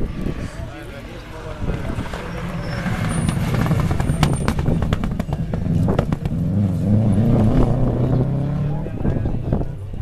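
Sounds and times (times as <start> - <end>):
rally car engine passing: 0.0 - 10.0.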